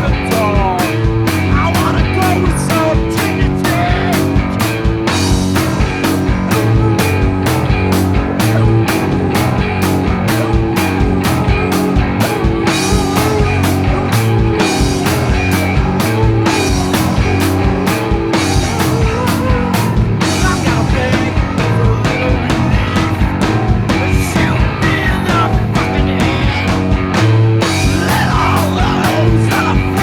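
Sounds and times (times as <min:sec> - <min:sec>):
drums steady beat: 0:00.0 - 0:30.0
heavy electric bass line: 0:00.0 - 0:30.0
rock band playing: 0:00.0 - 0:30.0.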